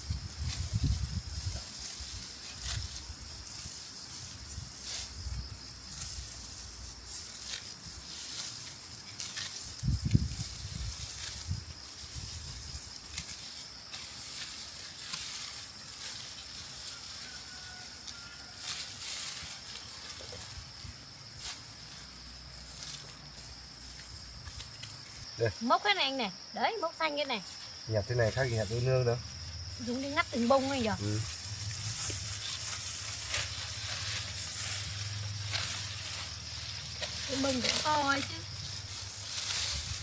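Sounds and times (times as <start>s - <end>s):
dry rice stalks rustling: 0.0s - 40.0s
high insect drone: 0.0s - 40.0s.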